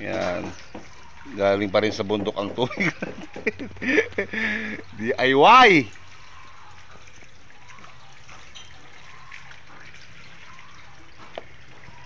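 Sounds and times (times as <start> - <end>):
water trickling down metal gutter: 0.0 - 12.0.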